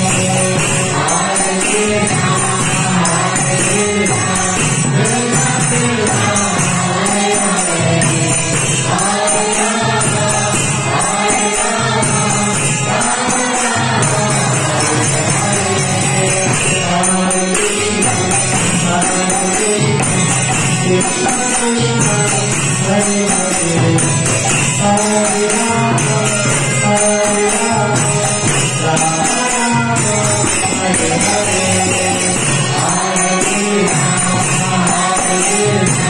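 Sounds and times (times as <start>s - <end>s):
hand cymbals ringing: 0.0s - 36.0s
harmonium: 0.0s - 36.0s
man singing a devotional chant: 0.0s - 36.0s.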